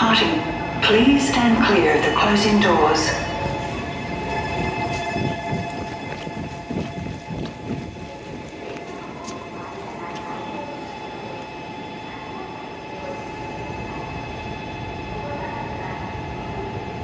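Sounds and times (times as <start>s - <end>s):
low train rumbling: 0.0s - 17.0s
train electrical hum: 0.0s - 17.0s.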